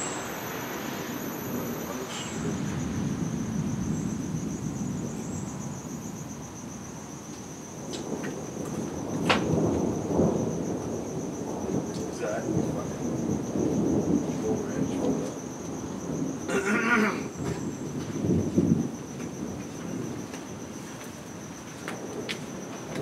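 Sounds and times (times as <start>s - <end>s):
insects trilling: 0.0s - 23.0s
thunder rumbling: 0.0s - 23.0s.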